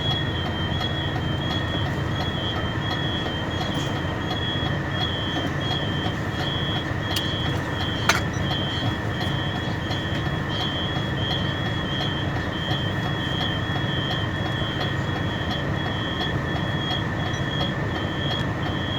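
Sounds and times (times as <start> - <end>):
diesel truck engine running: 0.0 - 18.9.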